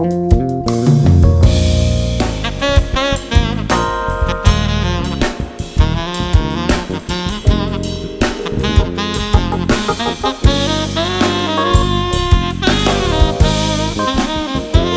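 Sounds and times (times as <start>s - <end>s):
drum kit: 0.0s - 14.9s
saxophone melody: 1.4s - 14.9s.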